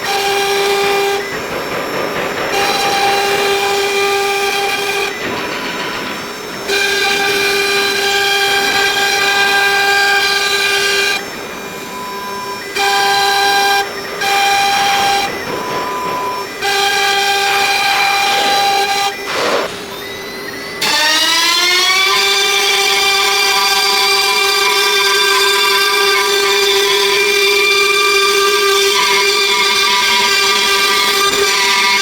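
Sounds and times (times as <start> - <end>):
router motors whining: 0.0 - 32.0.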